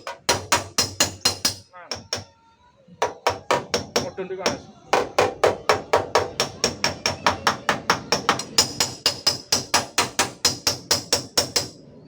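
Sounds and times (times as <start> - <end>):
hammer tapping on steel panel: 0.0 - 2.3, 3.0 - 11.8.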